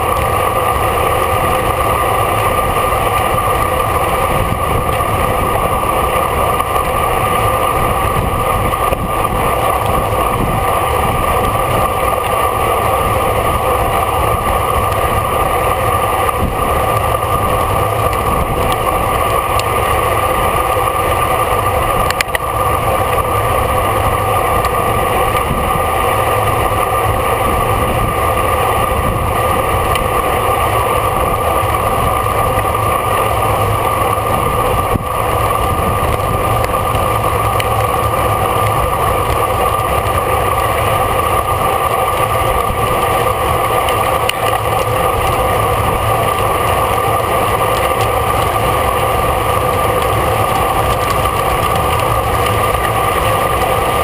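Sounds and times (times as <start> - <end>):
bicycle road noise: 0.0 - 54.0
constant hum: 0.0 - 54.0
wind rush: 0.0 - 54.0.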